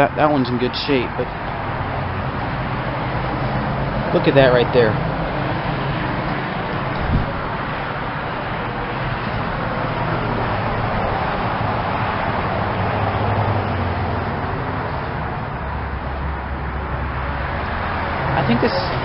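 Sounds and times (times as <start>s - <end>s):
air conditioning units humming: 0.0s - 19.0s.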